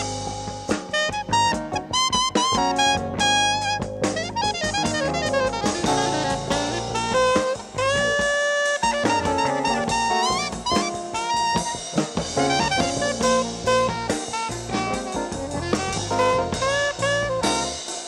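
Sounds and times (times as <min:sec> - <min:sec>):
walking bass: 0:00.0 - 0:17.8
drum kit: 0:00.0 - 0:18.0
saxophone melody: 0:00.0 - 0:18.0.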